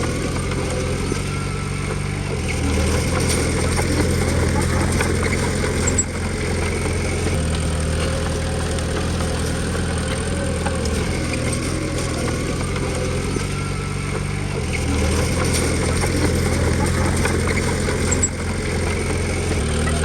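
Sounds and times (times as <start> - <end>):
heavy machinery diesel engine running: 0.0 - 20.0.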